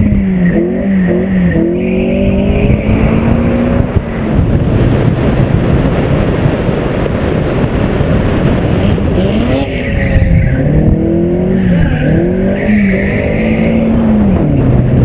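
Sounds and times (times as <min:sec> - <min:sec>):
car engine revving hard: 0:00.0 - 0:06.0, 0:06.6 - 0:15.0.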